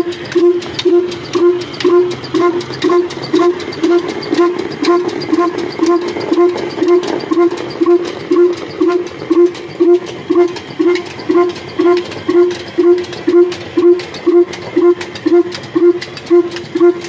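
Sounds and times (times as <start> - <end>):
diesel engine slow beat: 0.0 - 17.0.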